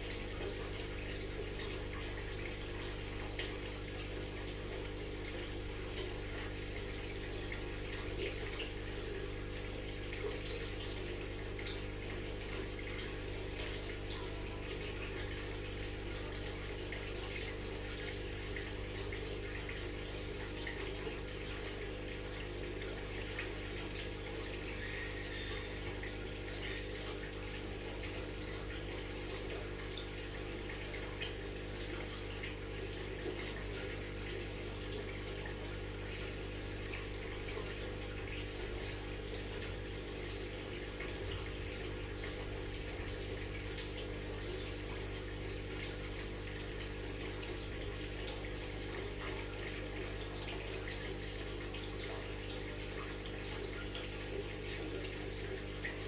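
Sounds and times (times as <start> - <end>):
pump humming: 0.0 - 56.0
water running and splashing: 0.0 - 56.0.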